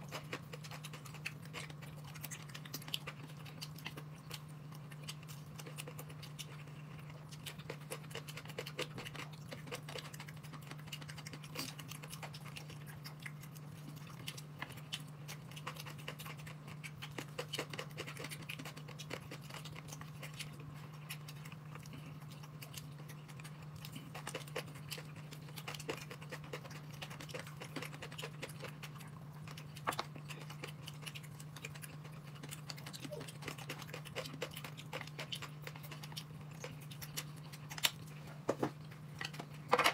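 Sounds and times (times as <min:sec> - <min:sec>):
clicks and taps of eating: 0:00.1 - 0:39.9.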